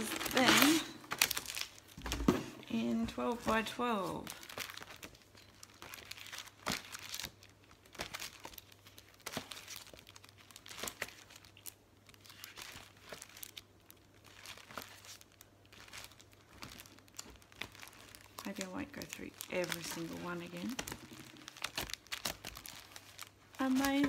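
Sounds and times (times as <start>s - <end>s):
plastic sleeves crinkling: 0.0s - 24.0s.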